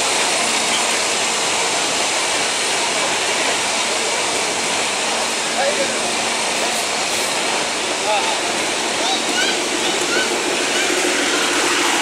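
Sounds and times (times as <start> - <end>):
train rolling past: 0.0 - 12.0.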